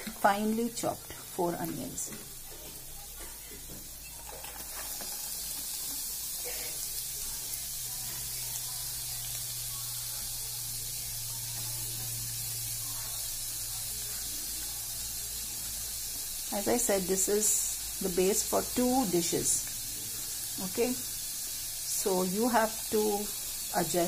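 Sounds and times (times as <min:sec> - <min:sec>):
onions sizzling in a pan: 0:00.0 - 0:24.0.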